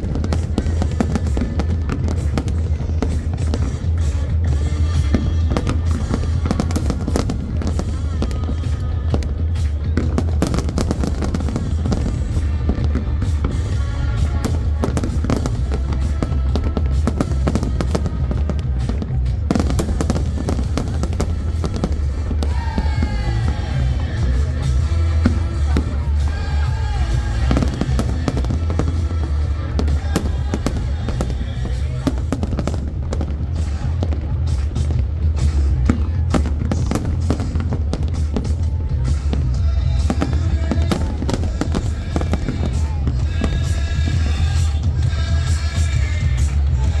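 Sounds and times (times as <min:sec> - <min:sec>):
fireworks bursting and crackling: 0:00.0 - 0:47.0
low rumble of fireworks barrage: 0:00.0 - 0:47.0
music playing: 0:00.0 - 0:47.0.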